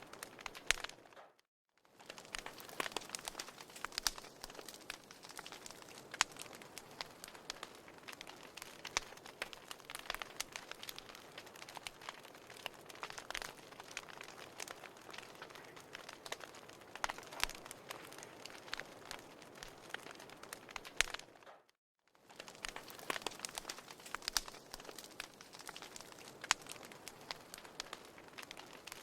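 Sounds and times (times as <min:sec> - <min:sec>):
sharp pops and snaps: 0:00.0 - 0:01.4, 0:02.0 - 0:29.0
wood fire crackling: 0:00.0 - 0:29.0.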